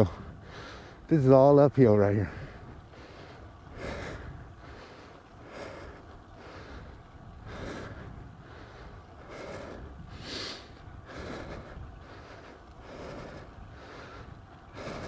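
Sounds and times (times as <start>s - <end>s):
heavy breathing: 0.0s - 1.1s, 2.2s - 15.0s
road and wind rumble: 0.0s - 15.0s.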